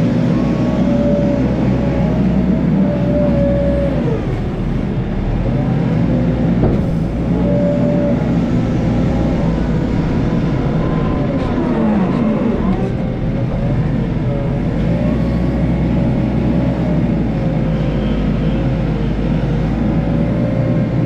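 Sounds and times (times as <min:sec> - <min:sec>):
machine whine: 0:00.0 - 0:20.8
wheel loader diesel engine under load: 0:00.0 - 0:21.0.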